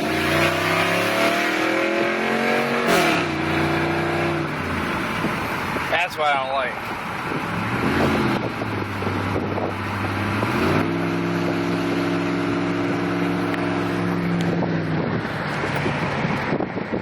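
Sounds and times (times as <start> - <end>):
unmuffled engine droning and revving: 0.0 - 17.0.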